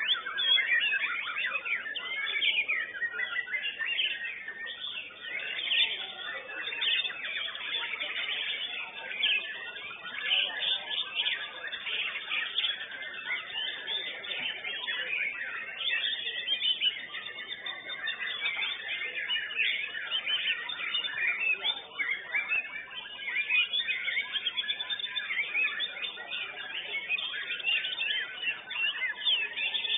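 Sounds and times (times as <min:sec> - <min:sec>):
songbird whistles and chirps: 0:00.0 - 0:29.9.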